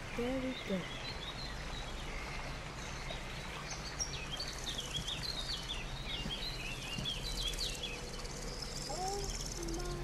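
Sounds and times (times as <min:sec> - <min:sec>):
low rumble of street traffic: 0:00.0 - 0:10.0
small bird chirping: 0:00.0 - 0:10.0.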